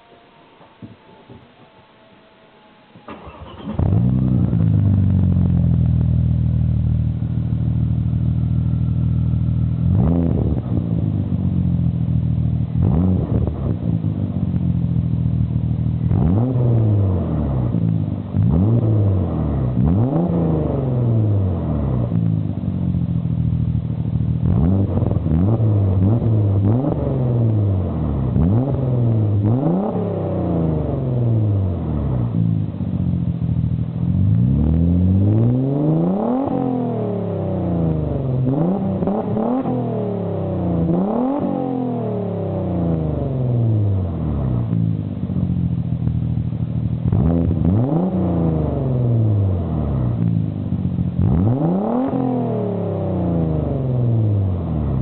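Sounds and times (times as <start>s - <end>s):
car engine starting and idling: 0.0s - 55.0s
engine revving in throttle blips: 3.1s - 55.0s.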